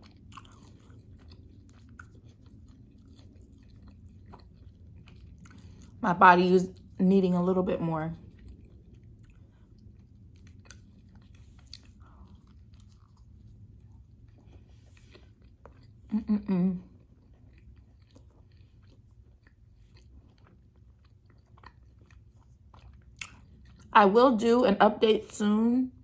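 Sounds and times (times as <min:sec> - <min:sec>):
chewing food: 0:00.0 - 0:24.0.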